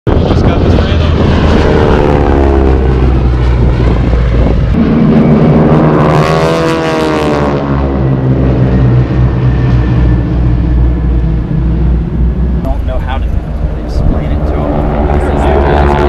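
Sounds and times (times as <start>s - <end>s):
propeller plane flying past: 0.1s - 16.0s.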